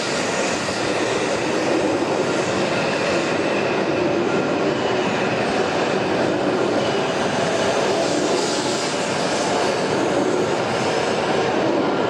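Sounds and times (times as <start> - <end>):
high-speed train passing: 0.0 - 12.0.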